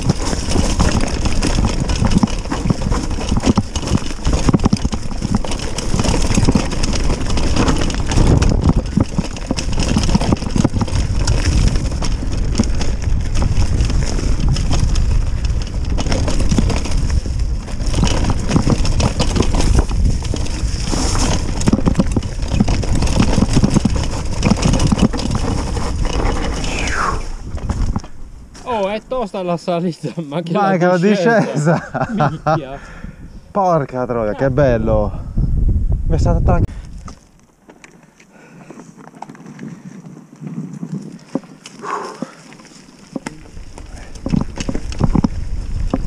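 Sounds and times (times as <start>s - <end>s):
wind buffeting microphone: 0.0s - 29.5s, 31.3s - 37.2s, 43.4s - 46.0s
bike knocking and rattling: 0.0s - 29.6s, 36.7s - 46.0s
bike tyres rumbling over rocks: 0.0s - 29.8s, 36.1s - 46.0s.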